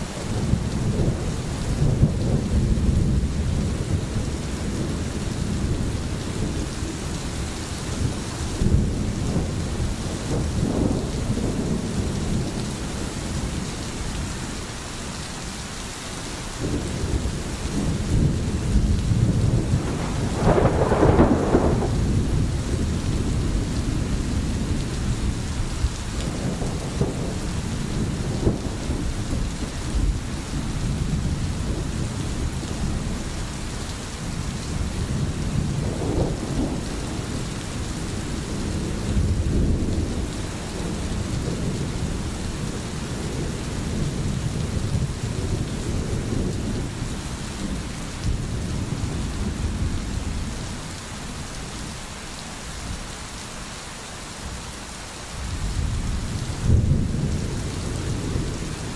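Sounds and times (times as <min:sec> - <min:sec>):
thunder rumbling: 0:00.0 - 0:14.4, 0:16.6 - 0:50.8, 0:55.4 - 0:58.9
rain hissing: 0:00.0 - 0:58.9.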